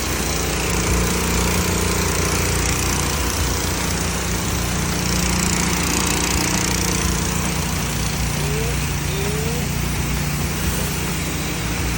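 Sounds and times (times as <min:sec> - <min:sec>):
water spray hissing on concrete: 0:00.0 - 0:06.1, 0:06.9 - 0:11.9
pressure washer engine running: 0:00.0 - 0:11.9.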